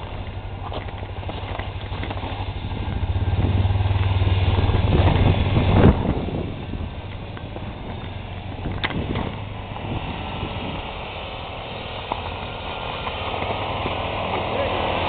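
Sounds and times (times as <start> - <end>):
atv engine working hard: 0.0 - 15.0.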